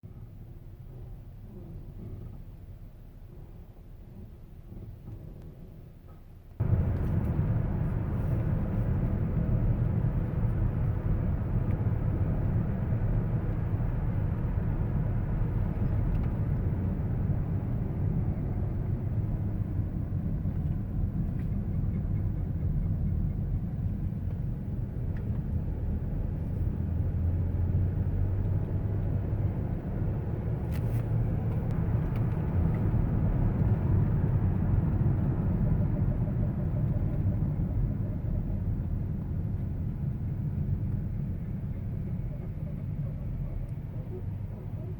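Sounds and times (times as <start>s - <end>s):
road and tyre rumble: 0.0s - 44.9s.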